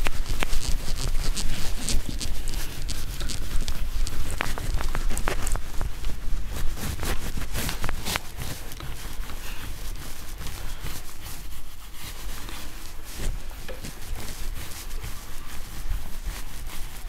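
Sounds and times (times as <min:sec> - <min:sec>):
duster wiping a whiteboard: 0:00.0 - 0:17.0.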